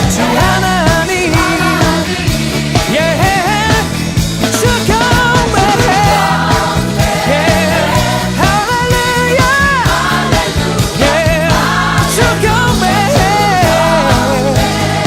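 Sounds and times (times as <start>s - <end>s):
gospel band playing: 0.0s - 15.0s
people singing: 0.0s - 15.0s.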